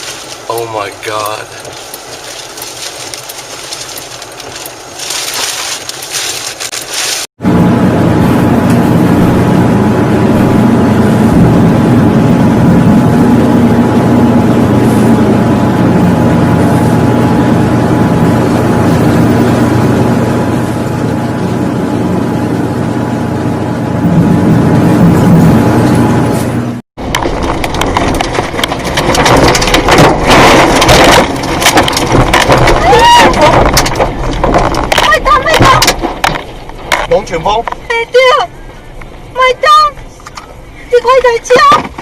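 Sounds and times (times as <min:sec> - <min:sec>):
road noise: 0:00.0 - 0:42.0
vehicle engine droning: 0:00.0 - 0:42.0.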